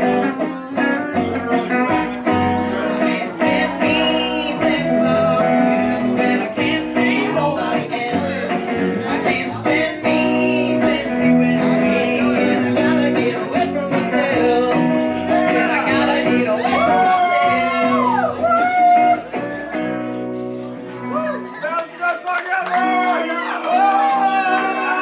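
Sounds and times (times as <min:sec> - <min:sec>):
person singing: 0:00.0 - 0:20.1
live band playing: 0:00.0 - 0:21.6
guitar: 0:00.0 - 0:25.0.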